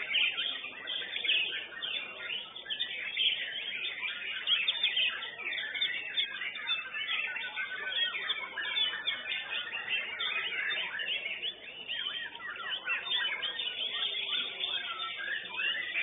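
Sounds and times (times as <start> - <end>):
birds whistling and chirping: 0.0 - 16.0.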